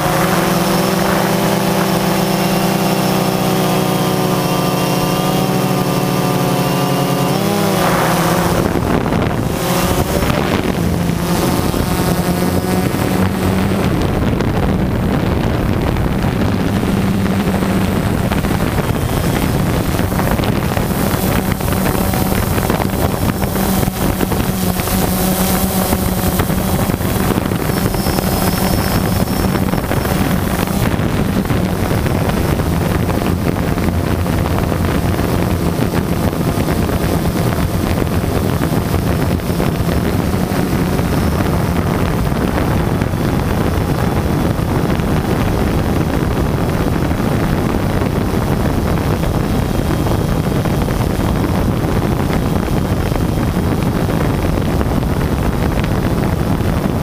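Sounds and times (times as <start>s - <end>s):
quadcopter propellers humming: 0.0s - 57.0s
wind buffeting microphone: 0.0s - 57.0s.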